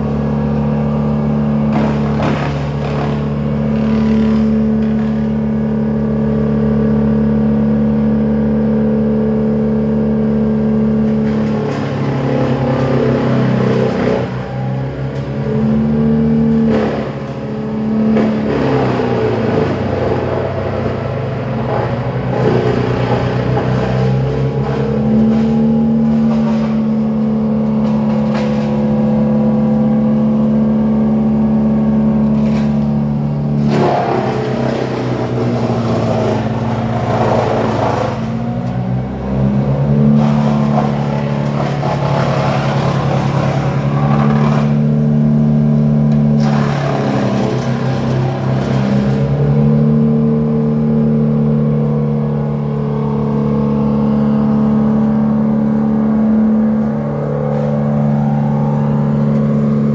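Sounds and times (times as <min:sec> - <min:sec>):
chainsaw engine running: 0:00.0 - 0:07.2, 0:10.3 - 0:29.5, 0:31.8 - 0:38.8, 0:39.4 - 0:59.9.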